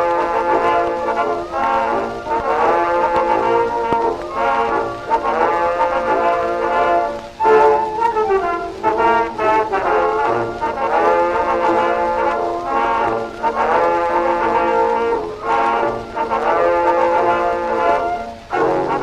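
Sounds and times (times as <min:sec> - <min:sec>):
old record of dance orchestra: 0:00.0 - 0:19.0.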